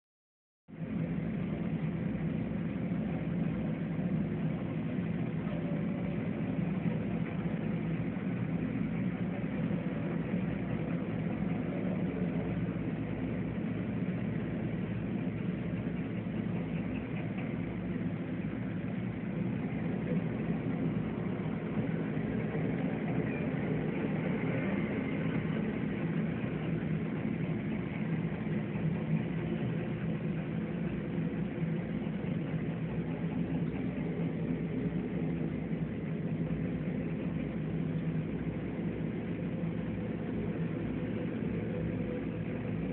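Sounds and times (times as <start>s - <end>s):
construction machinery drone: 0.7s - 42.9s
distant city traffic rumble: 0.7s - 42.9s.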